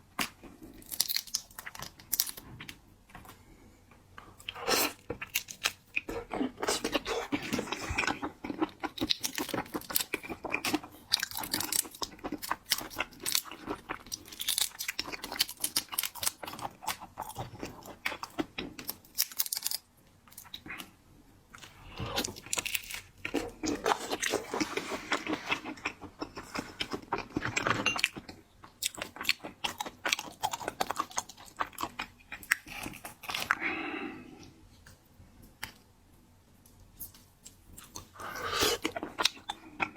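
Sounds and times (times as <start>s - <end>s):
chewing and crunching food: 0.1s - 3.5s, 4.2s - 33.6s, 36.9s - 39.9s.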